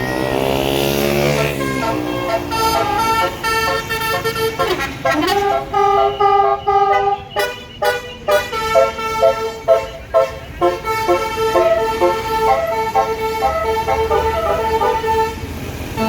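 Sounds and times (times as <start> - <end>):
bus musical air horn: 0.9 - 16.0.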